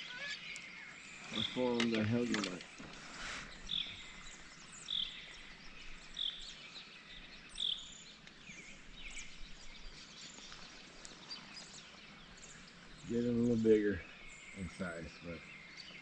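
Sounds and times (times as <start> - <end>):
thin bird chirps: 0.0 - 16.0.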